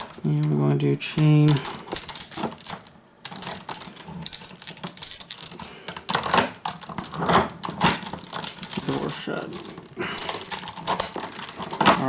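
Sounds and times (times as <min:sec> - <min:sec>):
metal chain clinking and rattling: 0:00.0 - 0:12.0.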